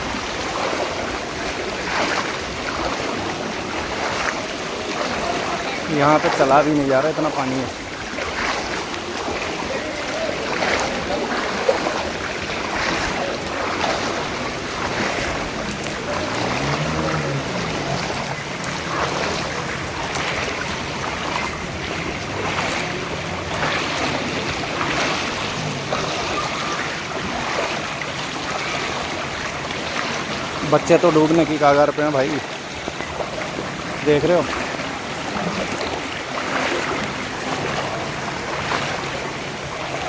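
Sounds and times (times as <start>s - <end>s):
person wading through water: 0.0s - 40.0s.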